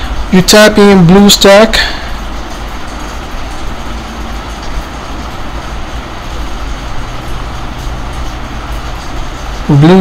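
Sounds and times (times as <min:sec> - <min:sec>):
background rumble with hiss: 0:00.0 - 0:10.0.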